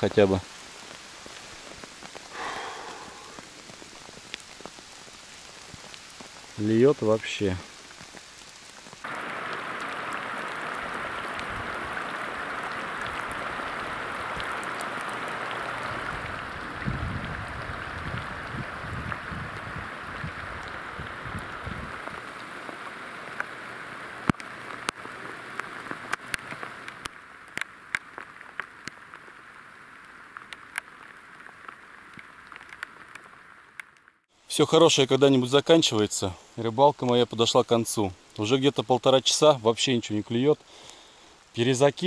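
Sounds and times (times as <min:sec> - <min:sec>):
heavy rain on plastic bag: 0:00.0 - 0:34.3.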